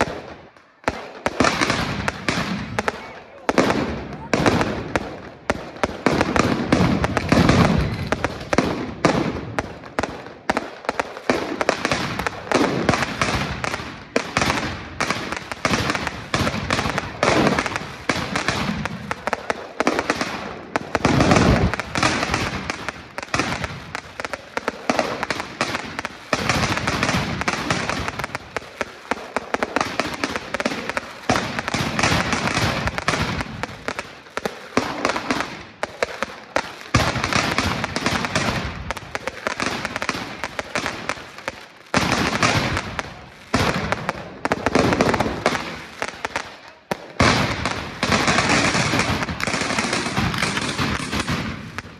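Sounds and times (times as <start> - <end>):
fireworks cracking and banging: 0.0 - 51.9
low fireworks booms: 0.0 - 51.9.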